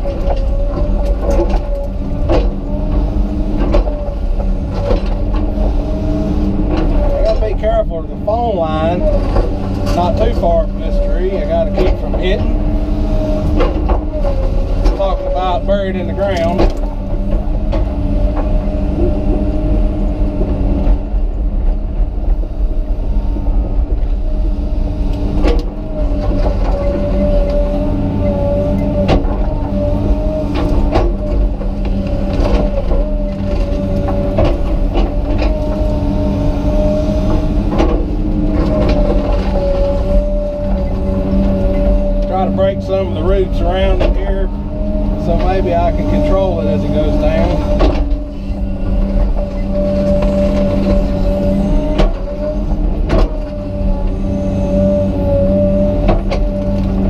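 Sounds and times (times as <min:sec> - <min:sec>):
excavator diesel engine: 0:00.0 - 0:57.0
hydraulic whine: 0:00.0 - 0:57.0.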